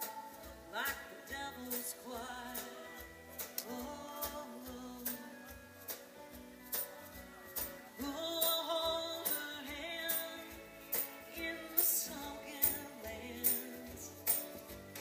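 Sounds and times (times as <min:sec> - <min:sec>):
drums and cymbal hits: 0:00.0 - 0:15.0
live band playing country song: 0:00.0 - 0:15.0.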